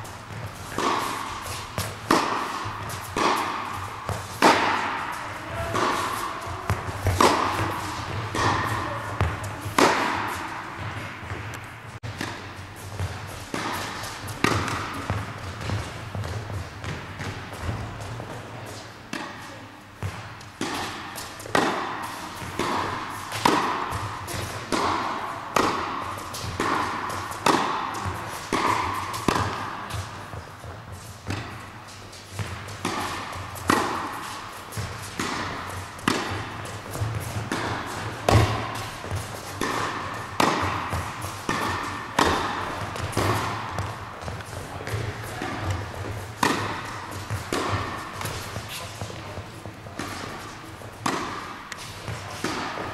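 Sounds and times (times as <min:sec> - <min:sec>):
racket hitting tennis ball: 0:00.0 - 0:52.9
ball bouncing on court: 0:00.2 - 0:18.5, 0:19.1 - 0:31.6, 0:32.4 - 0:52.9.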